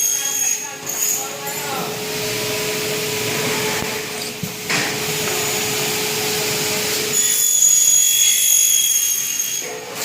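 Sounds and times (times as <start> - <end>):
cnc machine humming and hissing: 0.0 - 10.0.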